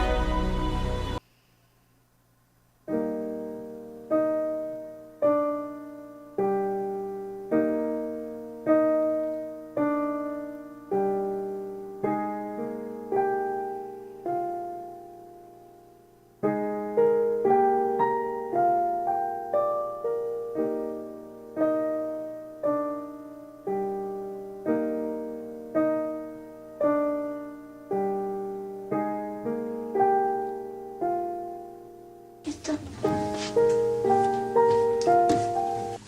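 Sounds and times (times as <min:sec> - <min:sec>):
gentle piano music: 0:02.9 - 0:36.0.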